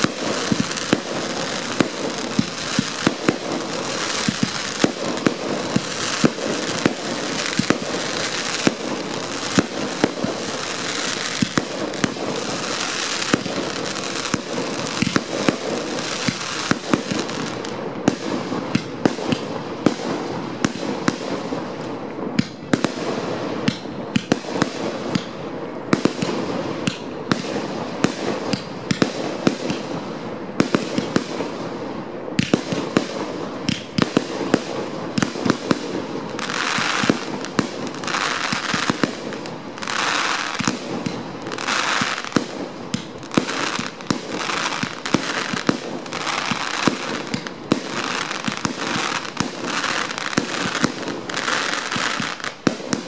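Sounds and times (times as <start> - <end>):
fireworks bangs: 0.0 - 53.0
fireworks crackling: 0.0 - 53.0.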